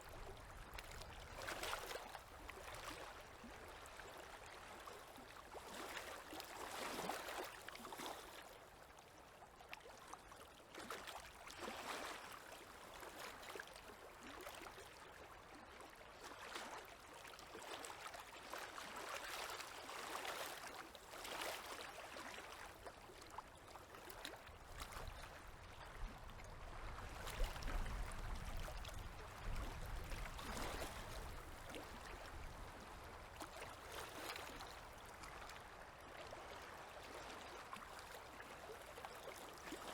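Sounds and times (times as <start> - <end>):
river waves lapping at shore: 0.1 - 8.5, 10.7 - 14.8, 15.8 - 39.9.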